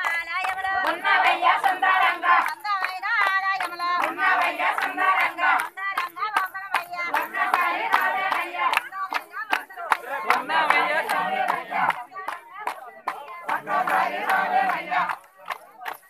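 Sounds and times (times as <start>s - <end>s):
group singing together: 0.0s - 16.0s
hands clapping a steady beat: 0.0s - 16.0s.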